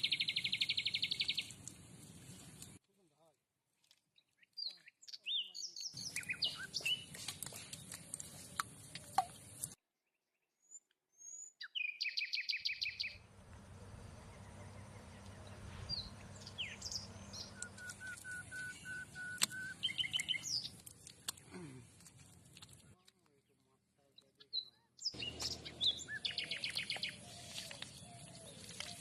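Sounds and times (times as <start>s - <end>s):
small birds chirping: 0.0s - 2.8s, 4.2s - 9.8s, 10.6s - 29.0s.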